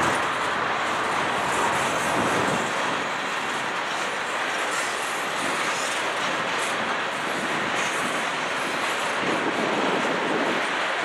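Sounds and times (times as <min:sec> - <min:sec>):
steel wheels on rails: 0:00.0 - 0:11.0.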